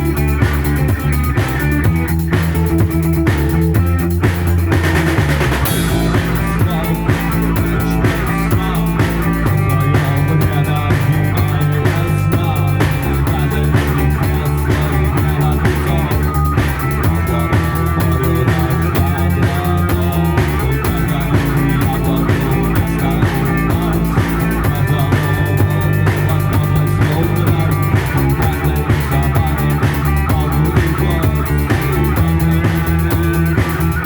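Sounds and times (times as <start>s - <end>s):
drum beat: 0.0s - 34.0s
rock guitar: 0.0s - 34.0s.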